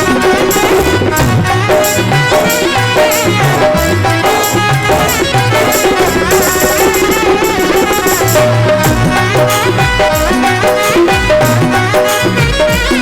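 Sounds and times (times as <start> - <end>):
folk melody instrument: 0.0 - 13.0
hand drum rhythm: 0.0 - 13.0.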